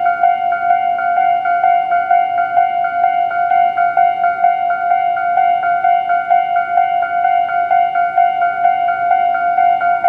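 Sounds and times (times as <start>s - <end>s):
level crossing alarm bells: 0.0s - 10.0s.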